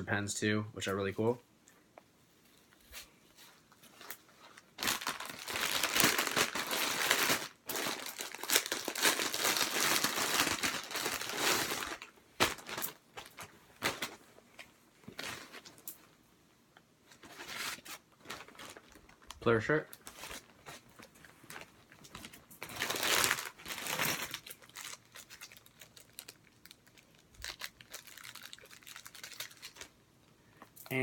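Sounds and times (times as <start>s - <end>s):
packaging crinkling and rustling: 3.4s - 16.0s, 17.1s - 30.0s.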